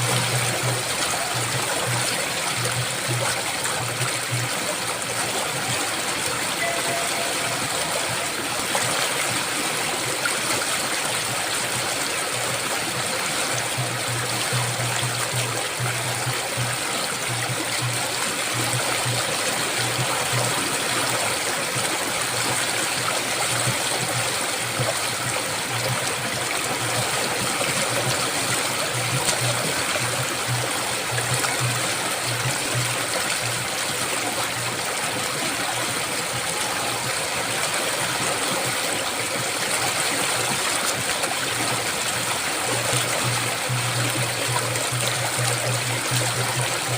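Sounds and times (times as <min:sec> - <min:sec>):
river water rushing: 0:00.0 - 0:46.9.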